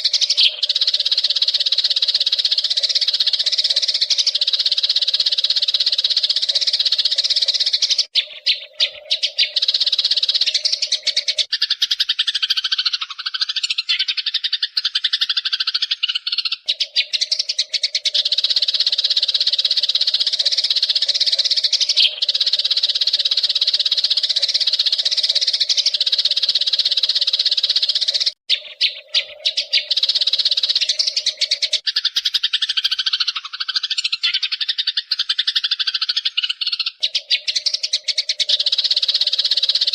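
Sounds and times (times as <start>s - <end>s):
sparrows twittering: 0.0s - 39.9s.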